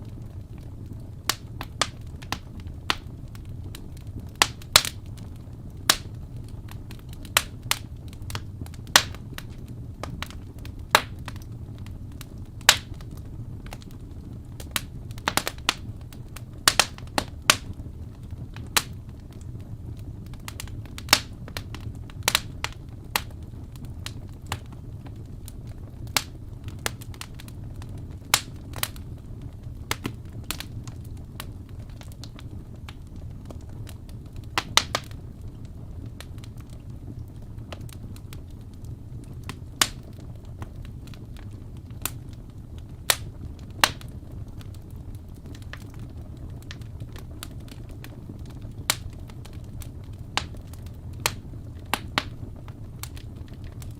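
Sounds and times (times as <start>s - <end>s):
logs crackling and popping: 0.0s - 53.9s
low rumble of flames: 0.0s - 53.9s.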